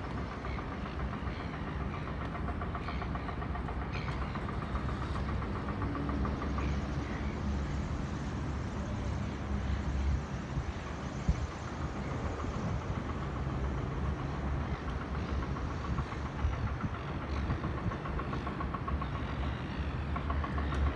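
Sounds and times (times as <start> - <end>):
engine idling rumble: 0.0 - 20.9.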